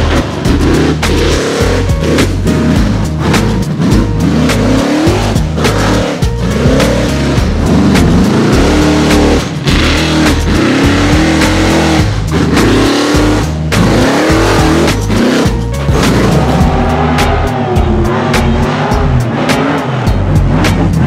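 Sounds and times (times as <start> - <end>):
background music with steady beat: 0.0 - 21.0
buggy engine revving: 0.0 - 21.0.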